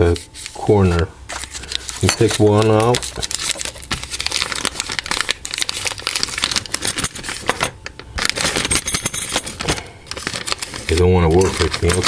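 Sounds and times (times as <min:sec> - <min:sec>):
plastic bag crinkling: 0:01.3 - 0:12.0.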